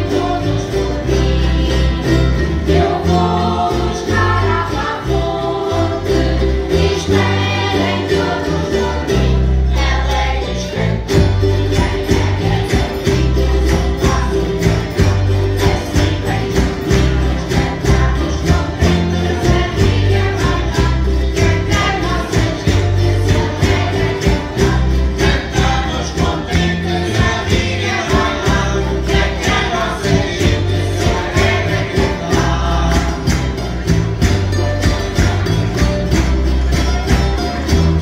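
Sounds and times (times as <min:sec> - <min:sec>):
group singing in chorus: 0:00.0 - 0:36.4
strummed guitars: 0:00.0 - 0:38.0.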